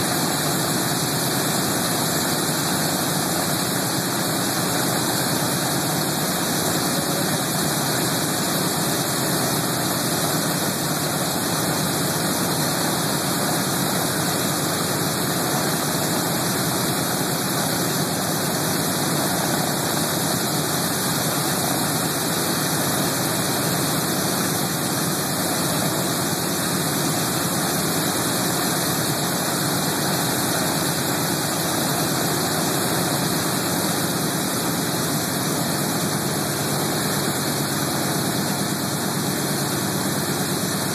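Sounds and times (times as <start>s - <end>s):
radial aircraft engines idling: 0.0s - 40.9s.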